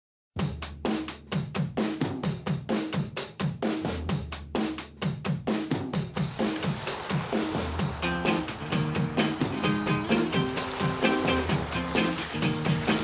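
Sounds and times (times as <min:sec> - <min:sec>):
drum kit beat: 0:00.4 - 0:13.0.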